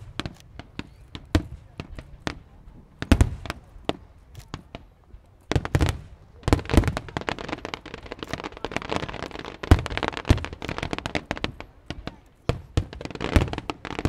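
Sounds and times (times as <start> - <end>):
heavy firework booms: 0.0 - 4.9, 5.5 - 14.0
fireworks bangs and crackling: 0.0 - 14.0.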